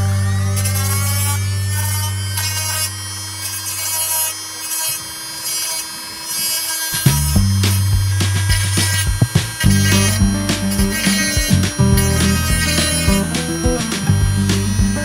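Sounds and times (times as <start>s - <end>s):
rotary tool grinding foam: 0.0s - 15.0s.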